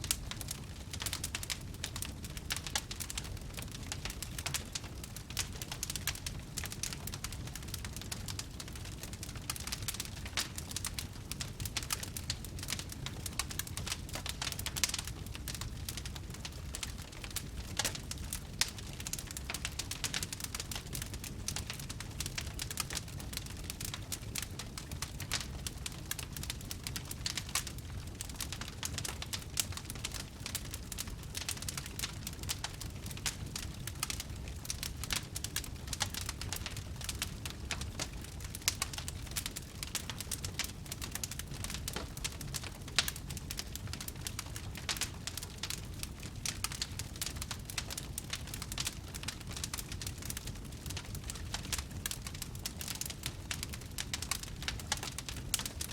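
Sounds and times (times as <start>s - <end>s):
fire crackling: 0.0s - 55.9s.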